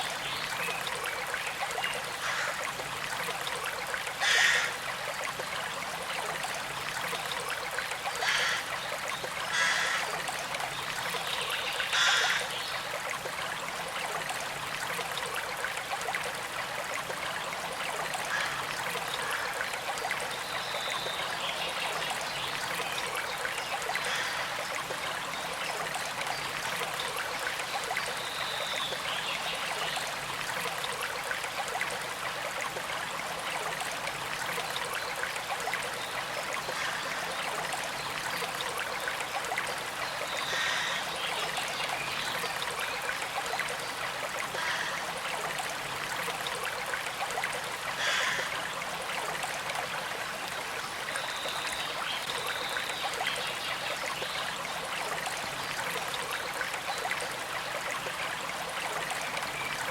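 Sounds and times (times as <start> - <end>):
creek trickling: 0.0 - 59.9
water splashes and gurgles: 0.0 - 59.9.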